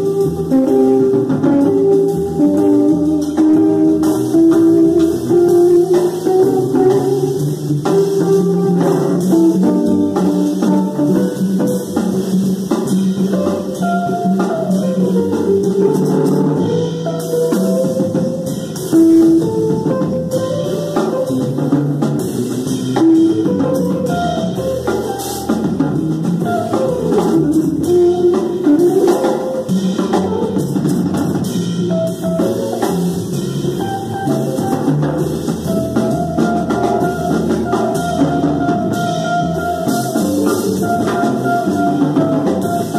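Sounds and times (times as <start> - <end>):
drum kit with cymbals: 0.0 - 42.9
electric guitar: 0.0 - 42.9
upright bass: 0.0 - 42.9.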